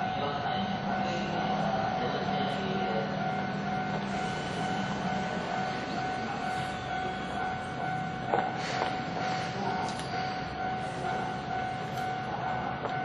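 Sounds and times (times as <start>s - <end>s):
electric train running: 0.0s - 13.0s
level crossing bell ringing: 0.0s - 13.0s.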